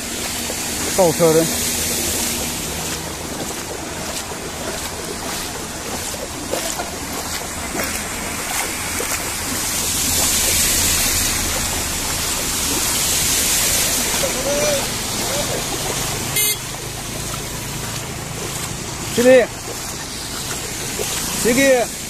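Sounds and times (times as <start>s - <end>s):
car driving through water: 0.0s - 22.0s
floodwater rushing and splashing: 0.0s - 22.0s.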